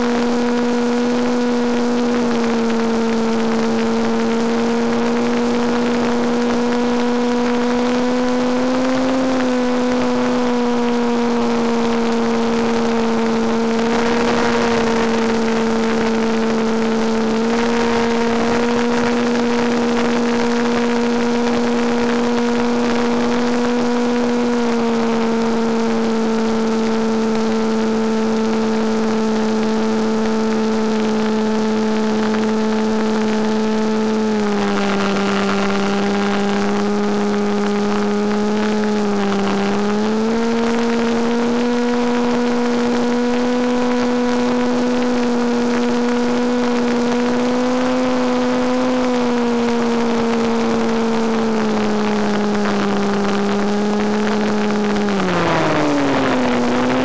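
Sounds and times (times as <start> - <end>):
model airplane propeller drone: 0.0 - 57.0.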